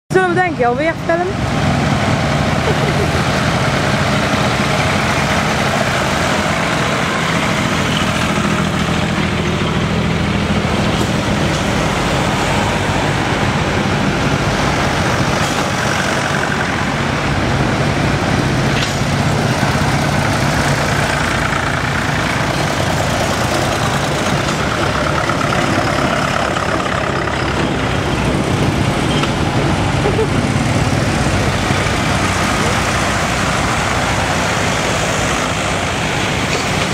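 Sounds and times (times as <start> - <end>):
tractor engine running: 0.4 - 36.9.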